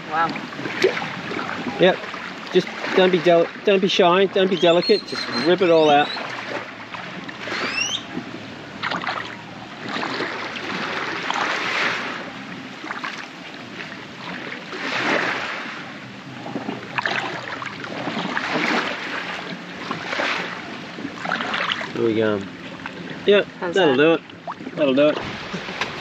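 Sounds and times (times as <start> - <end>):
seawater sloshing and splashing: 0.0 - 26.0.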